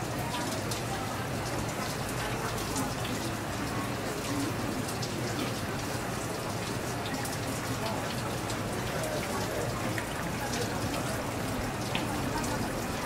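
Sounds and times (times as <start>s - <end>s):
tap water splashing: 0.0s - 13.0s.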